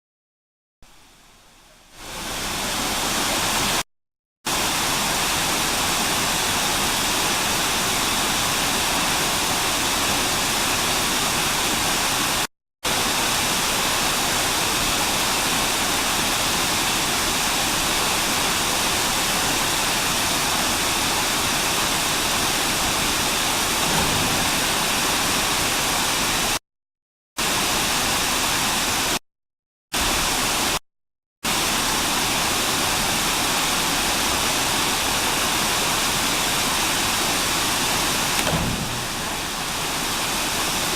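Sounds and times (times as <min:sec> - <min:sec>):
waterfall rushing: 0:02.0 - 0:03.8, 0:04.5 - 0:26.6, 0:31.5 - 0:40.9.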